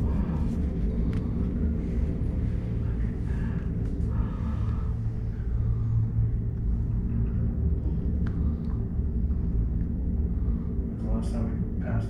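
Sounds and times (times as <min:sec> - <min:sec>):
gondola cabin rumble and hum: 0:00.0 - 0:12.0.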